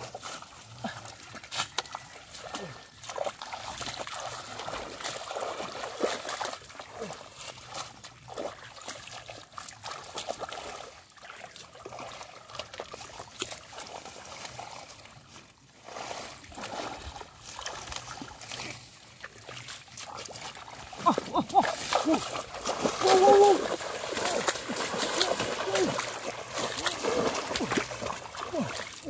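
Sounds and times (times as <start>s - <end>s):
feet splashing in muddy water: 0.0s - 29.0s.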